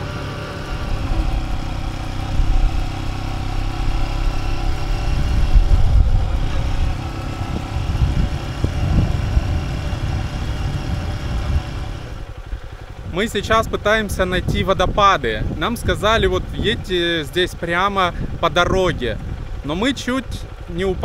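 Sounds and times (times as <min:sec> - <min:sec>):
motorcycle engine running: 0:00.0 - 0:21.0
wind rumble on microphone: 0:00.7 - 0:21.0.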